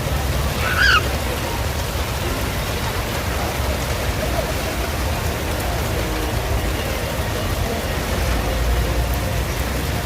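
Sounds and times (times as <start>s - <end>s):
heavy rain hissing: 0.0s - 10.0s
low traffic rumble: 0.0s - 10.0s.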